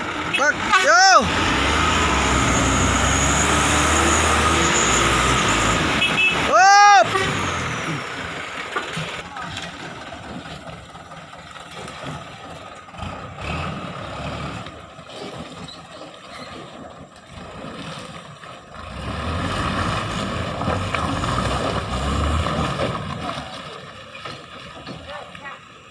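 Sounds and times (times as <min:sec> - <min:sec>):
truck engine rumbling: 0:00.0 - 0:25.9.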